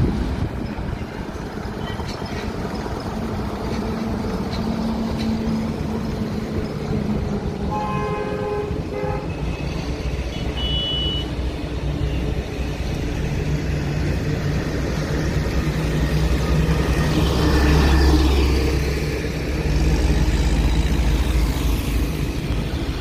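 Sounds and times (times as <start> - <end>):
diesel engine rumbling past: 0.0 - 23.0.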